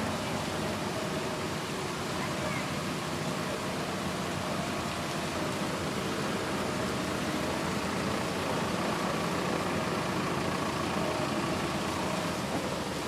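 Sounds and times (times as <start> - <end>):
road traffic: 0.0 - 13.0
steady rain hiss: 0.0 - 13.0
vehicle engine running close: 0.0 - 13.0.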